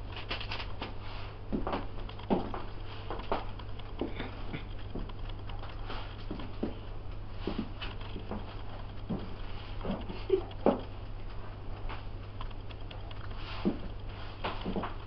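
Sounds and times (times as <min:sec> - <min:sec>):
low electrical hum: 0:00.0 - 0:15.0
knife tapping and scraping dough: 0:00.8 - 0:15.0.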